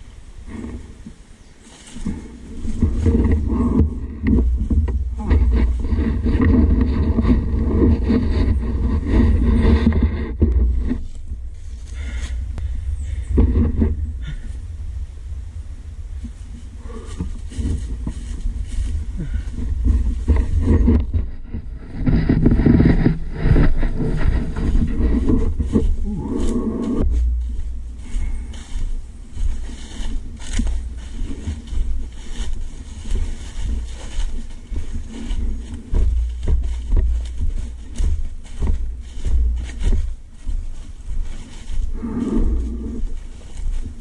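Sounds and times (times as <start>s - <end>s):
knocks and rattles over bumps: 0.0s - 44.0s
atv engine running: 1.9s - 44.0s.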